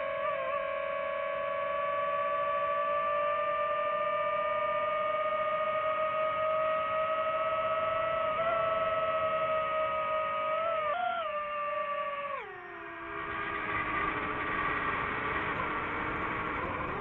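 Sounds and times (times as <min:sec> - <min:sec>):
quadcopter propellers whining: 0:00.0 - 0:17.0.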